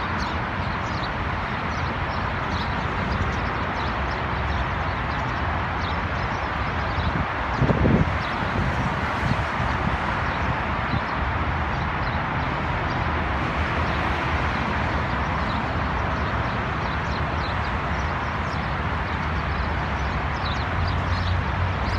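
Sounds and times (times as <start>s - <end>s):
highway traffic rushing: 0.0s - 21.9s.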